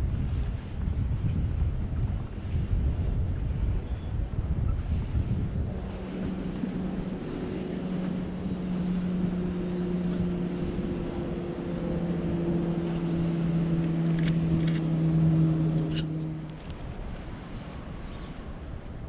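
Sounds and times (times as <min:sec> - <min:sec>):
engine droning: 0:00.0 - 0:19.0.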